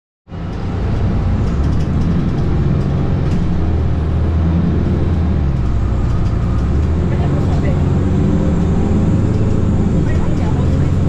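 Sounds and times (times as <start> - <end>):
bus diesel engine drone: 0.3 - 11.0.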